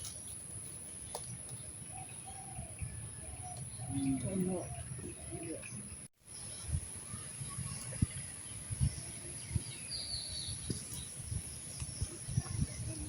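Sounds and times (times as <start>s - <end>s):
bird chirping: 1.0s - 13.0s.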